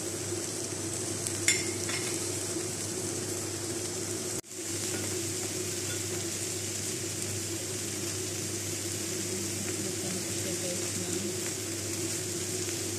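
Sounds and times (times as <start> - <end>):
chicken sizzling on grill: 0.0 - 12.9.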